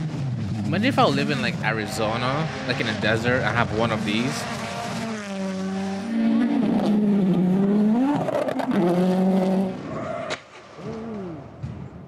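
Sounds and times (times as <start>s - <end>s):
rally car engine revving: 0.0s - 11.3s.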